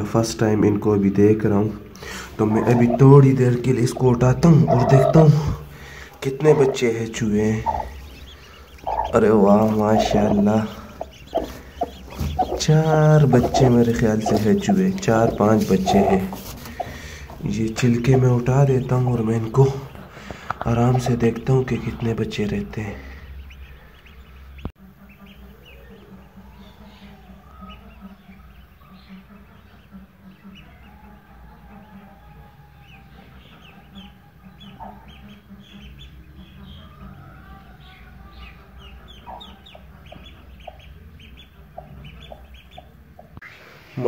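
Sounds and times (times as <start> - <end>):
ducklings peeping: 0.0 - 44.0
hen clucking: 0.0 - 44.0.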